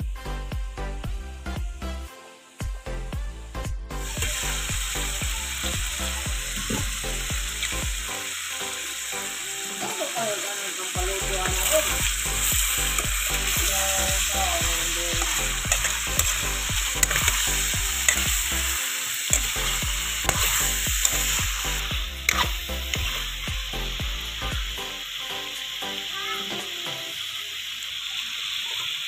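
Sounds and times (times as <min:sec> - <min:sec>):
chicken sizzling in hot oil: 0:04.0 - 0:29.0.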